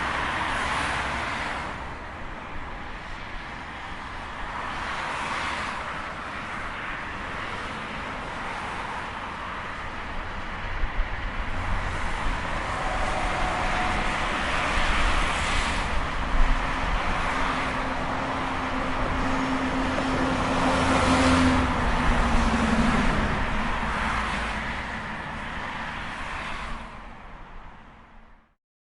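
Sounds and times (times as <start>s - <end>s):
highway traffic rushing: 0.0s - 28.6s.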